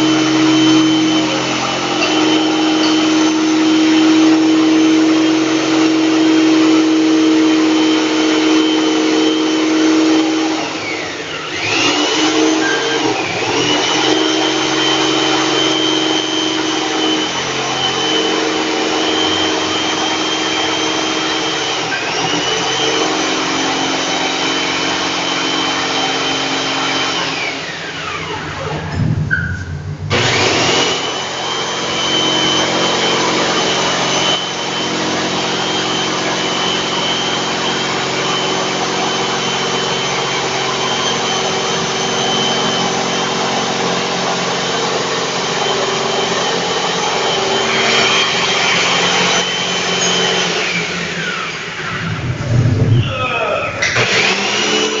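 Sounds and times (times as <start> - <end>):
electric jigsaw cutting wood: 0.0 - 28.9, 30.1 - 52.4, 53.8 - 55.0.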